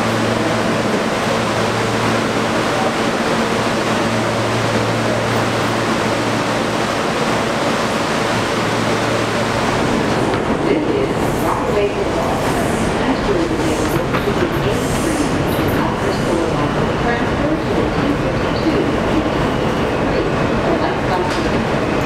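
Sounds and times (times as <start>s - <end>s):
subway wheels roaring on rail: 0.0s - 22.0s.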